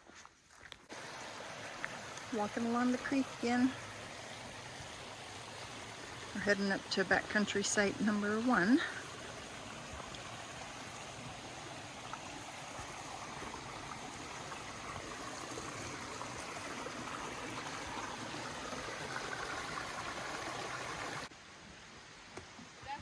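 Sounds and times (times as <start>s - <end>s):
creek flowing: 0.8s - 23.0s.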